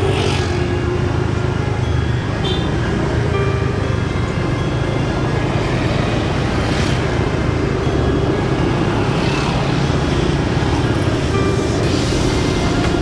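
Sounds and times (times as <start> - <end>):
road vehicle rumble: 0.0 - 13.0.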